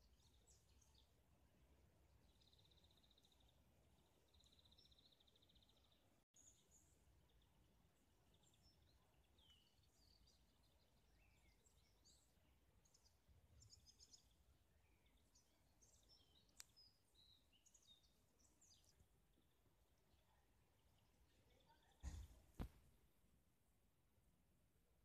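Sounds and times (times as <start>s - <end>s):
faint bird chirps: 2.2s - 22.7s.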